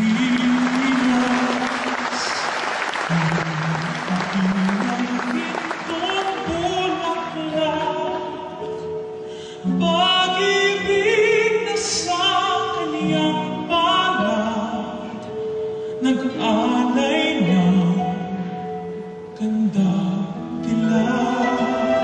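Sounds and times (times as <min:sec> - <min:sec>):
slow classical music: 0:00.0 - 0:22.0.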